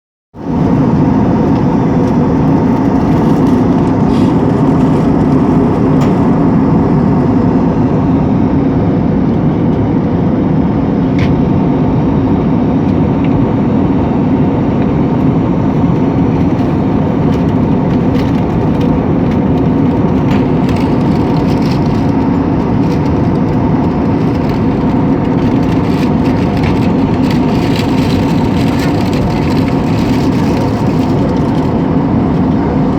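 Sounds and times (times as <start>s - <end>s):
airliner cabin engine drone: 0.4s - 32.9s.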